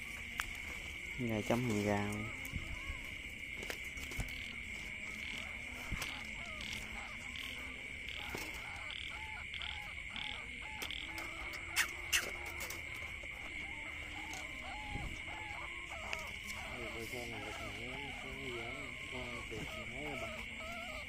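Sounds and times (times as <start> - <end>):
insects buzzing: 0.0 - 21.0
pulsed insect call: 0.0 - 21.0.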